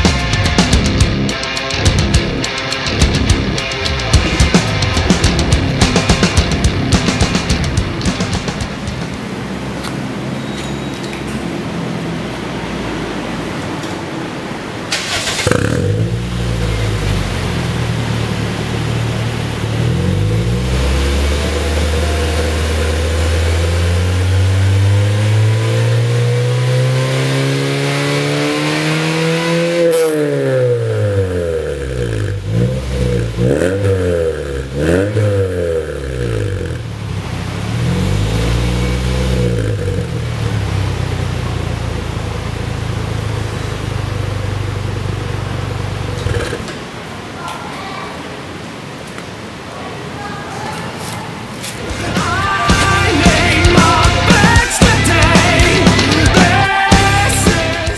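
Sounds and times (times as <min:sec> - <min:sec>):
car exhaust revving and idling: 0:00.0 - 0:47.0, 0:51.8 - 0:57.9.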